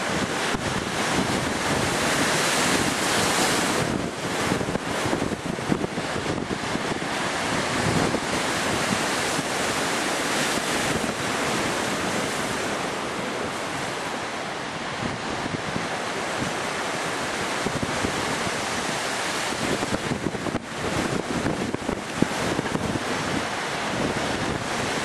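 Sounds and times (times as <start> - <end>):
sea surf breaking on concrete: 0.0 - 25.0
wind buffeting microphone: 0.0 - 25.0.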